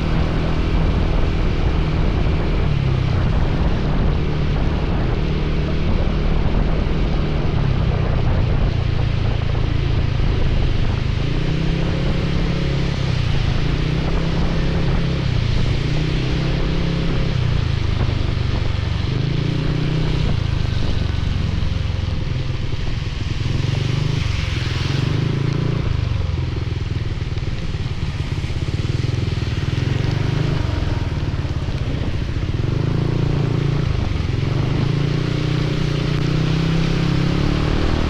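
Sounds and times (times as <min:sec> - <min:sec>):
hiss of rain and wet road: 0:00.0 - 0:38.0
motorcycle engine revving: 0:00.0 - 0:38.0.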